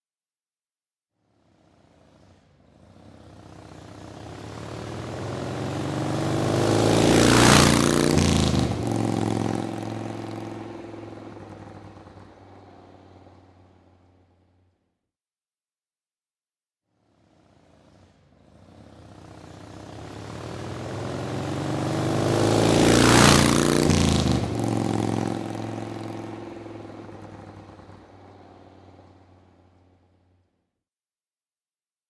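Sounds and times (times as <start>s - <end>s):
motorcycle driving past: 1.2s - 14.8s, 17.0s - 30.4s.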